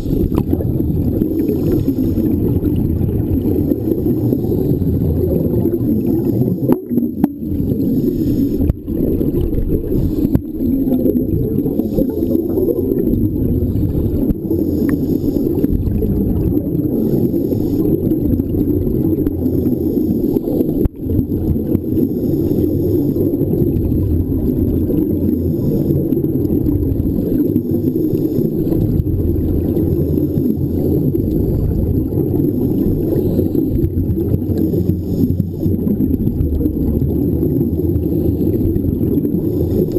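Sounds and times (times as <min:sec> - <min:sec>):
hiss of exhaust bubbles: 0:00.0 - 0:39.9
muffled underwater rumble: 0:00.0 - 0:39.9.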